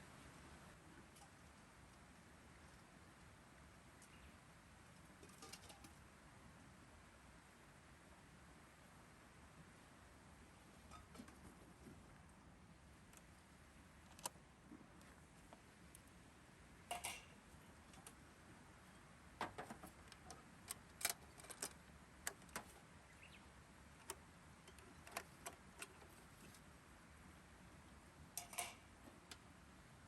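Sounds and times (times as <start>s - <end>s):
quiet steady hiss: 0.0s - 30.0s.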